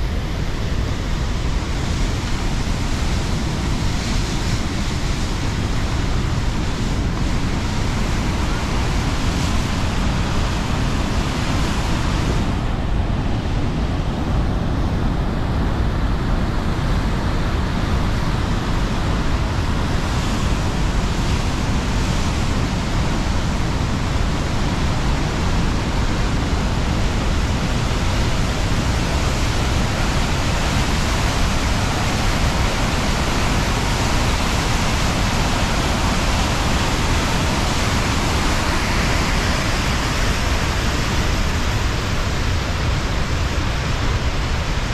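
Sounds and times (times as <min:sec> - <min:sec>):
waterfall and rapids rushing: 0:00.0 - 0:44.9.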